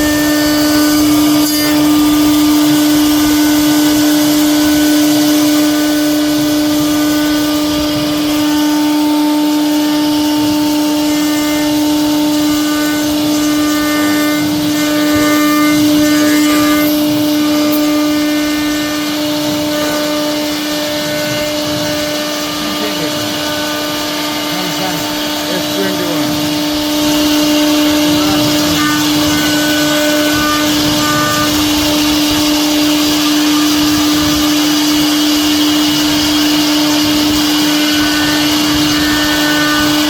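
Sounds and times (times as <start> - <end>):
router spindle whine: 0.0 - 40.0.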